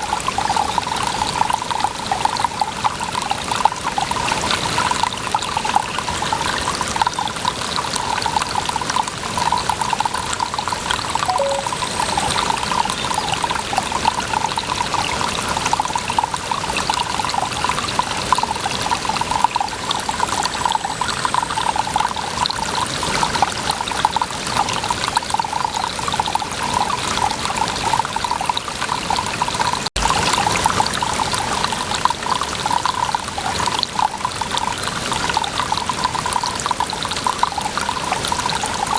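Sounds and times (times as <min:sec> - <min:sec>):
water running and trickling: 0:00.0 - 0:38.9.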